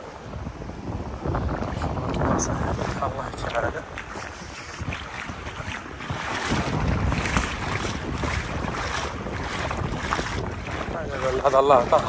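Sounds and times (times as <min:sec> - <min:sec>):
wind buffeting microphone: 0:00.0 - 0:12.0
water lapping and splashing: 0:01.1 - 0:12.0.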